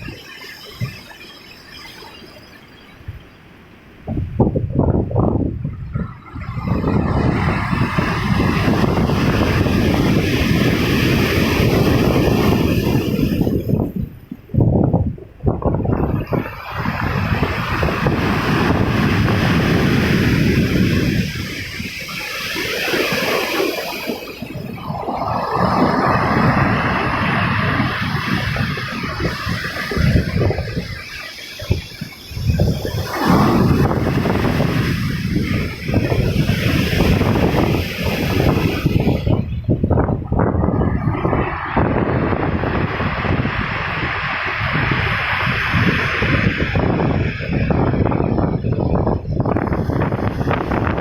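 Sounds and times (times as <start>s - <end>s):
wind buffeting microphone: 0.0s - 3.3s, 3.9s - 51.0s
waves breaking on shore: 0.0s - 51.0s.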